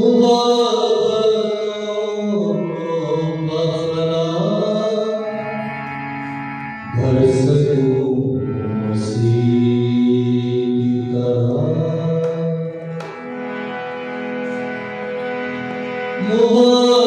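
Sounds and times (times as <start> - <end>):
man singing devotional melody: 0.0 - 13.7, 15.3 - 17.0
harmonium chords: 0.0 - 17.0.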